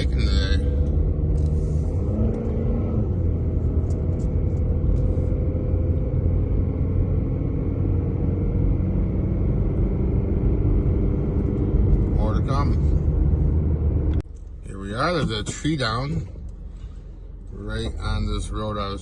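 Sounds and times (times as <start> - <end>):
vehicle engine and tyres rumbling: 0.0 - 19.0.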